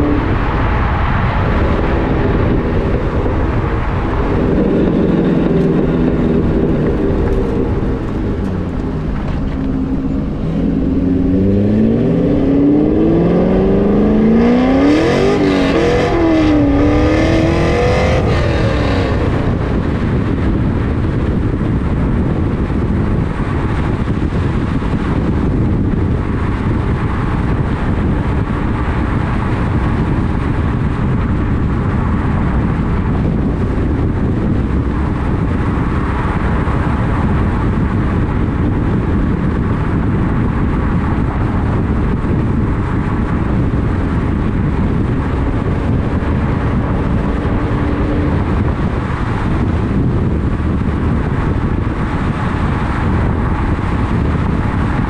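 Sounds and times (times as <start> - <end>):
car engine revving: 0.0 - 31.2, 31.9 - 55.0
wind and tyre noise: 0.0 - 55.0.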